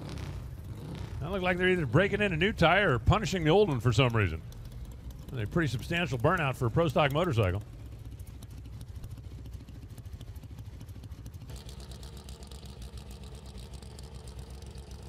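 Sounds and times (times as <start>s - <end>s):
motorcycle engines idling: 0.0s - 15.0s.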